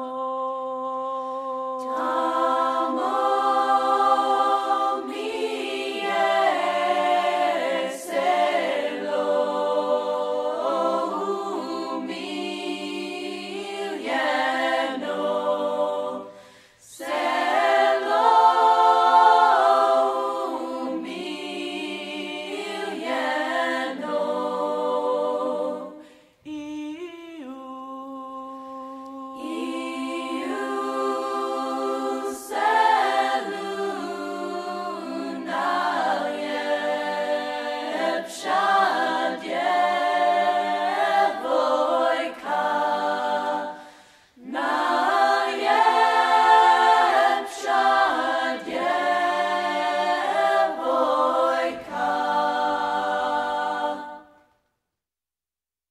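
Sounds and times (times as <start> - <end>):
unaccompanied choir singing: 0.0 - 54.6.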